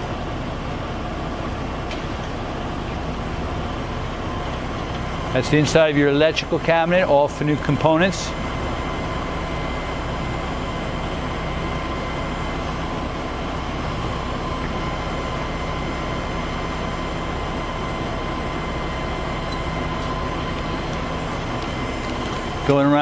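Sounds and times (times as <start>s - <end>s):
constant whining tones: 0.0s - 23.0s
machinery humming and whirring: 0.0s - 23.0s.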